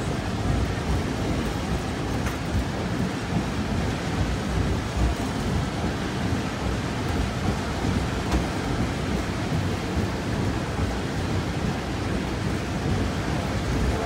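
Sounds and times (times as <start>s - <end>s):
steam train rumbling: 0.0s - 14.0s.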